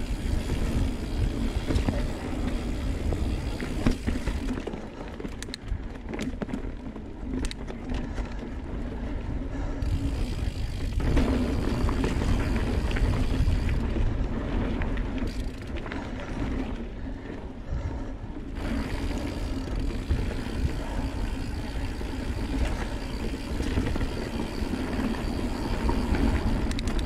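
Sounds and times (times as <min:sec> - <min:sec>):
bike clicks and rattles: 0:00.0 - 0:27.0
bike tyres rumbling on dirt: 0:00.0 - 0:27.0.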